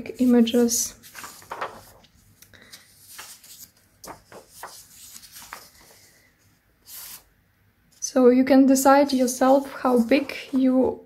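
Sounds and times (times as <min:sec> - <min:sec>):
paper rustling: 0:00.1 - 0:07.3, 0:09.0 - 0:10.9.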